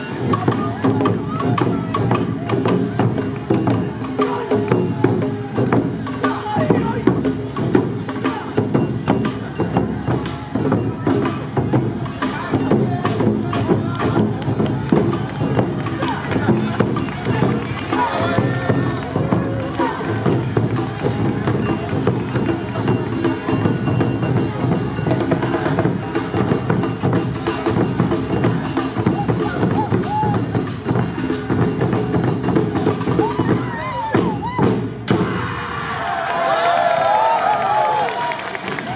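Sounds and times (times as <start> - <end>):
taiko drums beating fast: 0.0 - 35.9.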